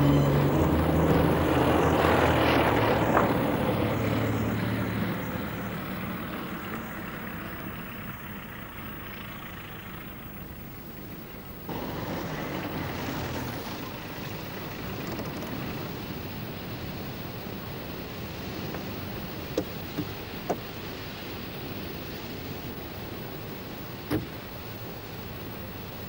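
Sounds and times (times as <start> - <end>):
car driving on stony ground: 0.0 - 26.0.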